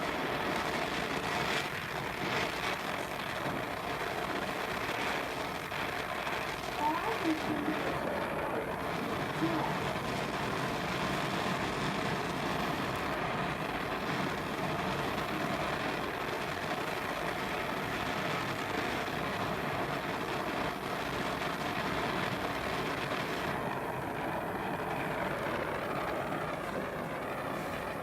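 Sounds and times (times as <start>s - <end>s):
torch flame hissing: 0.0s - 28.0s.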